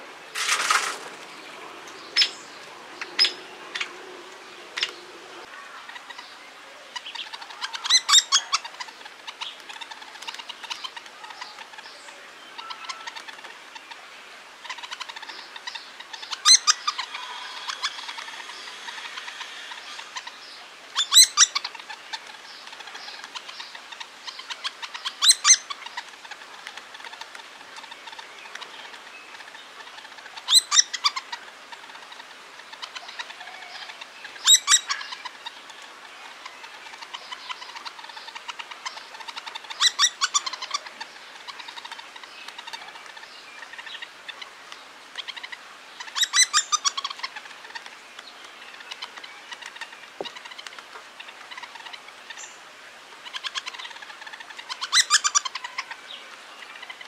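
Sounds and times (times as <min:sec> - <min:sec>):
woodpeckers calling: 0:00.0 - 0:57.0.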